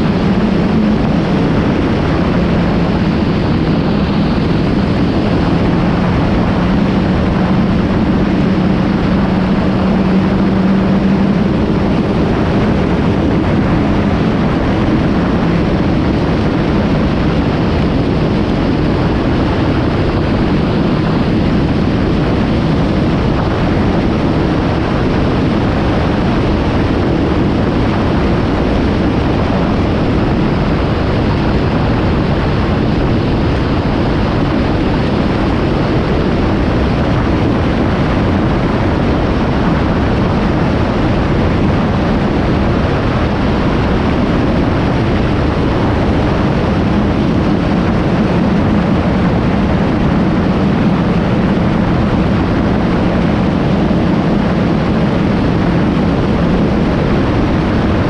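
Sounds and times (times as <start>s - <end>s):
motorcycle engine droning: 0.0s - 58.0s
wind rush on microphone: 0.0s - 58.0s.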